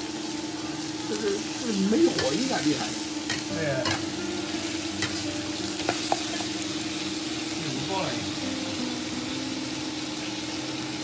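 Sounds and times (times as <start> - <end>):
meat sizzling in wok: 0.0 - 11.0.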